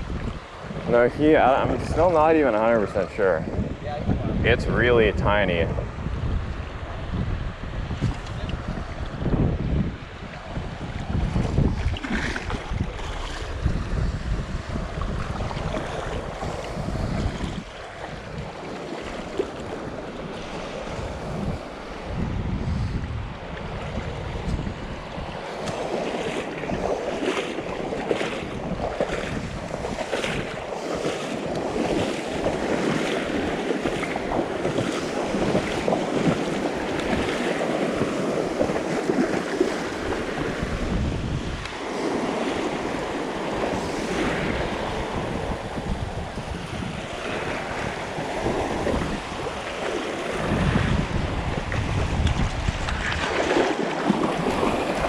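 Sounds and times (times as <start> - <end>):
small waves washing on beach: 0.0 - 55.0
wind buffeting microphone: 0.0 - 55.0.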